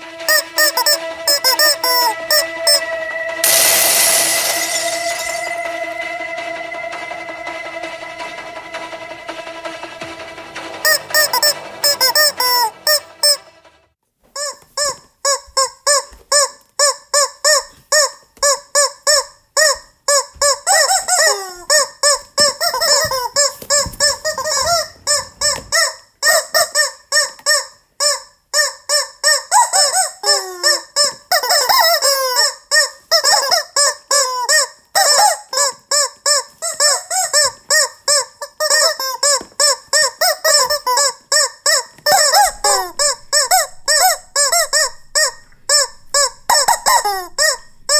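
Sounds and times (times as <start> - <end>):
rubber chicken squeaks tune: 0.3 - 2.8, 10.8 - 13.4, 14.3 - 47.9.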